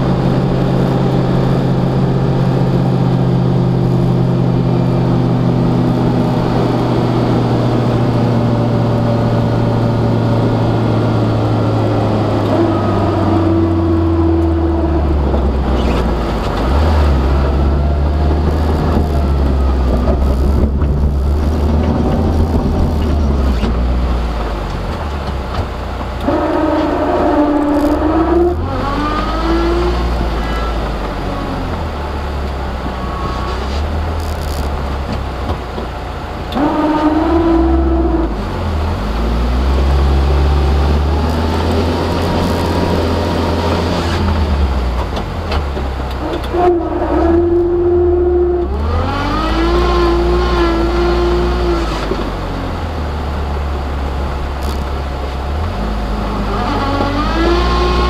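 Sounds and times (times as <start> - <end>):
utility vehicle engine revving: 0.0 - 58.0.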